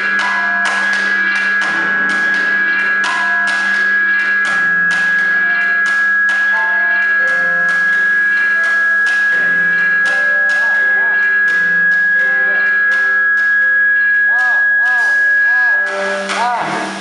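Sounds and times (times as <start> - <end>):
high drone tone: 0.0 - 17.0
scattered pitched notes: 0.0 - 17.0
sharp percussive hits: 0.0 - 17.0.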